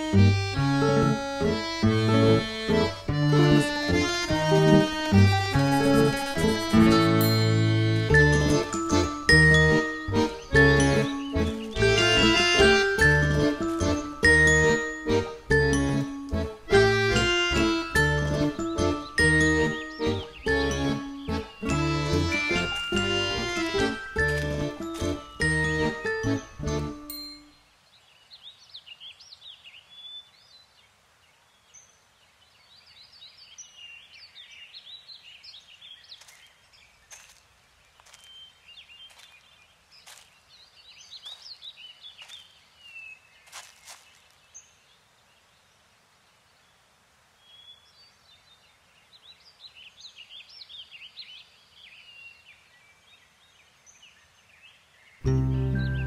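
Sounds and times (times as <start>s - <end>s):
faint outdoor ambience: 0.0s - 56.0s
songbirds chirping: 0.0s - 56.0s.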